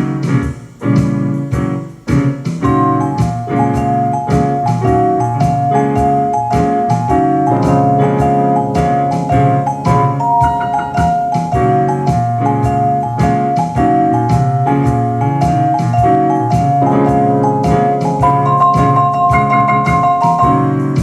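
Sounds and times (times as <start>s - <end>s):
jazz music with keyboard: 0.0s - 21.0s.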